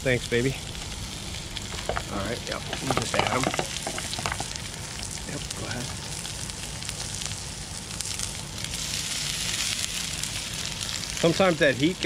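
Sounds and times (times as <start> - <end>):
fish sizzling in butter: 0.0 - 12.0
low steady rumble: 0.0 - 12.0.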